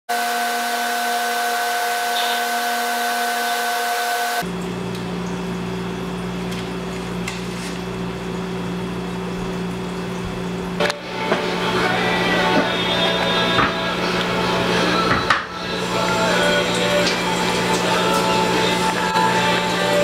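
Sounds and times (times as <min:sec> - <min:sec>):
steady mechanical hum with hiss: 0:01.8 - 0:20.0.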